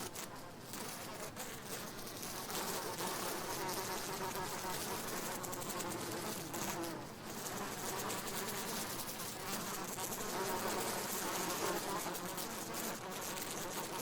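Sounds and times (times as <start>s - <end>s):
flies buzzing: 0.0s - 14.0s.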